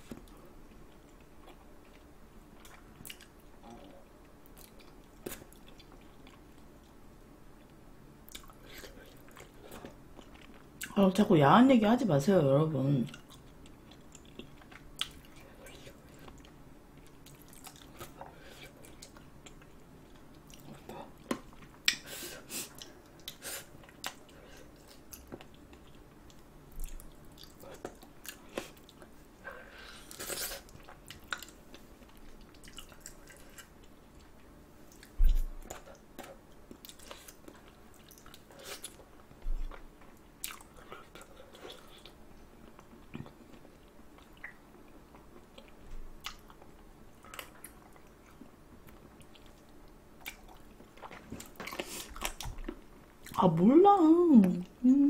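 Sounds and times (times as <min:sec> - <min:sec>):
chewing and crunching: 0:00.0 - 0:07.0, 0:07.6 - 0:11.0, 0:13.1 - 0:22.0, 0:22.7 - 0:53.4.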